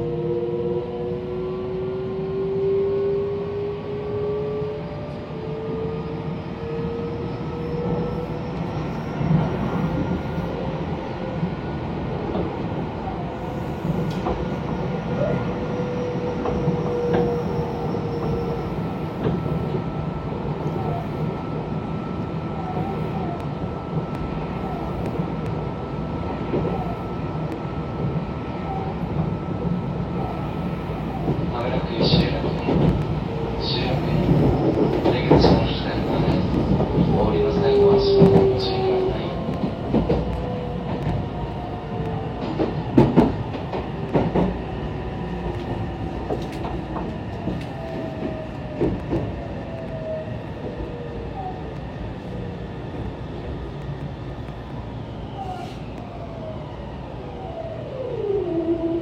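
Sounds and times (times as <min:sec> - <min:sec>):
train wheels rumbling on track: 0:00.0 - 0:58.4.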